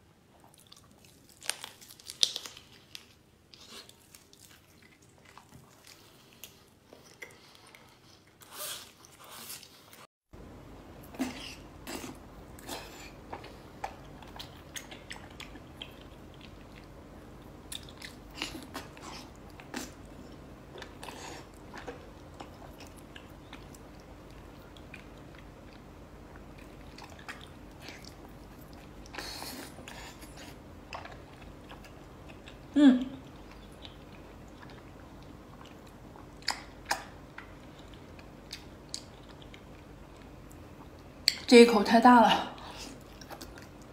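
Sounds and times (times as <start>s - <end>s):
faint steady hum: 0.0s - 43.9s
wet chewing and smacking: 0.4s - 10.0s, 11.2s - 41.5s, 42.6s - 43.9s.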